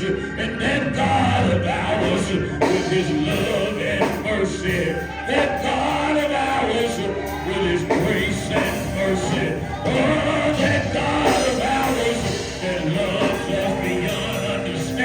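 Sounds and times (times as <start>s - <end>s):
person singing: 0.0s - 15.0s
live music: 2.1s - 15.0s.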